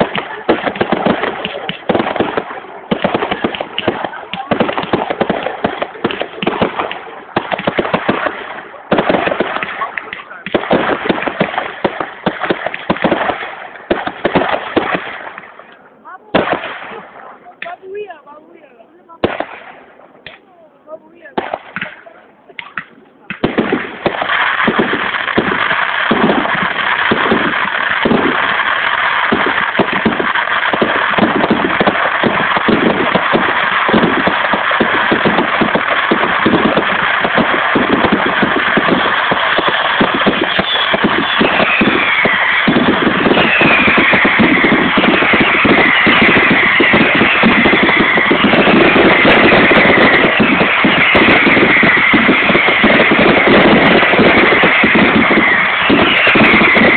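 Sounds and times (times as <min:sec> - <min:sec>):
firework shells bursting: 0:00.0 - 0:15.8, 0:21.3 - 0:56.9
fireworks crackling: 0:00.0 - 0:56.9.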